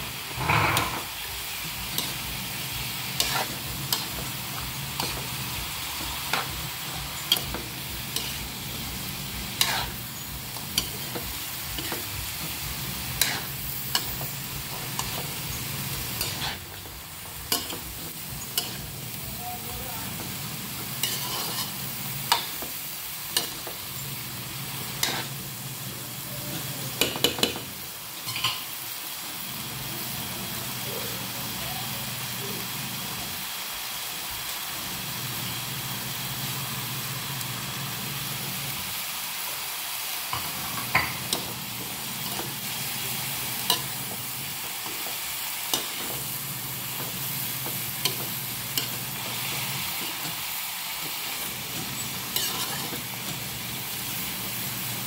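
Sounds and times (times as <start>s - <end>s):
vegetables sizzling in a wok: 0.0s - 55.0s.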